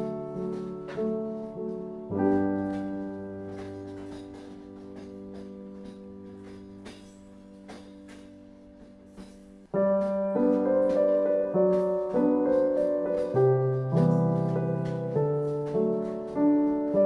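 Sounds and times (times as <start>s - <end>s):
piano melody: 0.0s - 17.0s
soft background music: 0.0s - 17.0s.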